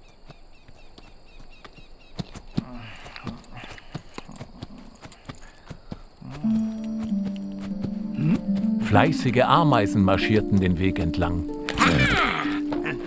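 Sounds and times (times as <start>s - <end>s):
horse hooves clopping on dirt: 0.0s - 12.0s.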